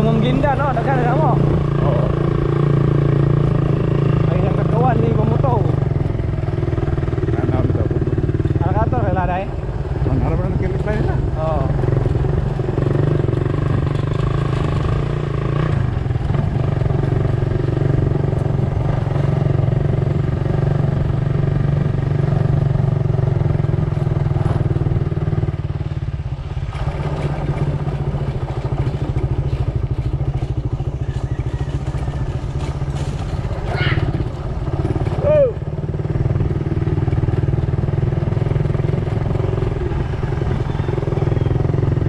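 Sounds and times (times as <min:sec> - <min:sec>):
vehicle engine droning: 0:00.0 - 0:42.0.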